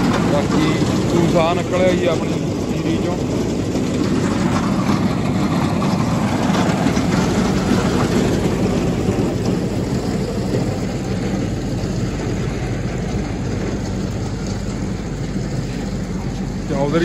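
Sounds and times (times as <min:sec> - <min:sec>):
winnowing fan rumble: 0:00.0 - 0:17.0.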